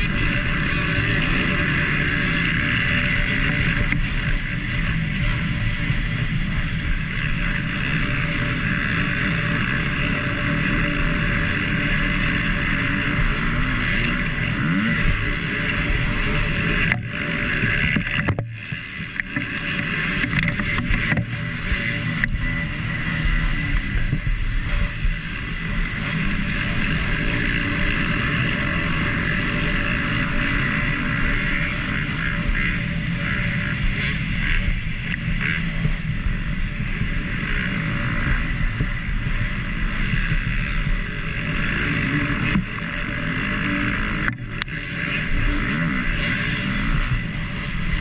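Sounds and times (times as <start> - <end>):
motocross bike engine revving: 0.0 - 48.0.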